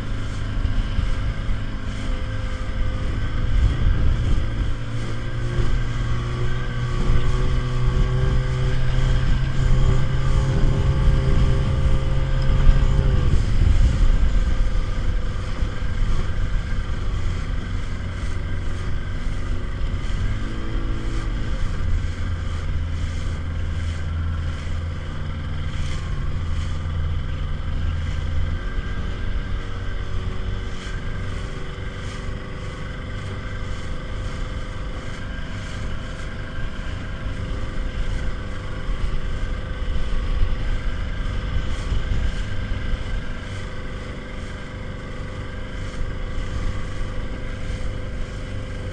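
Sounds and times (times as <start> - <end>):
outboard engine running: 0.0 - 48.9
water noise: 0.0 - 48.9
wind: 0.0 - 48.9.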